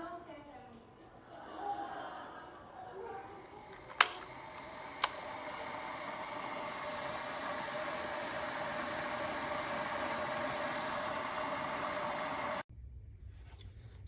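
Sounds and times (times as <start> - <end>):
electric kettle heating water: 0.0 - 12.7.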